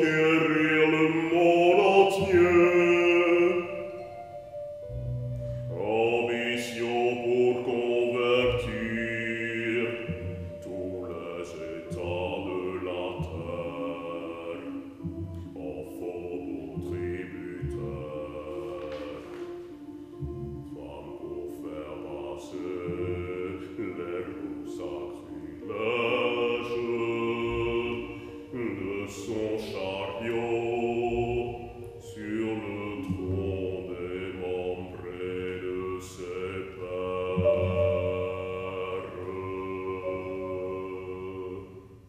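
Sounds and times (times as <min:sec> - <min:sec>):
man singing chant-like: 0:00.0 - 0:03.8, 0:05.7 - 0:15.0, 0:15.6 - 0:19.5, 0:20.6 - 0:42.0.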